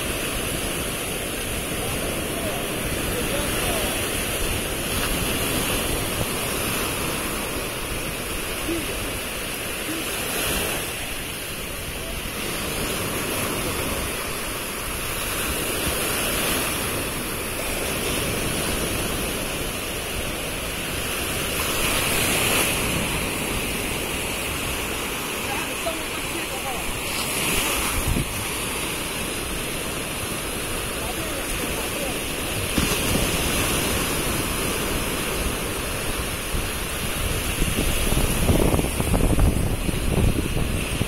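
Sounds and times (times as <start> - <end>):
sea surf on beach: 0.0 - 41.0.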